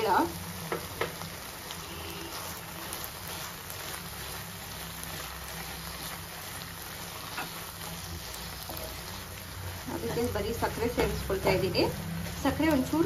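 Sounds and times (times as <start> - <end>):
spatula scraping a pan: 0.6 - 13.0.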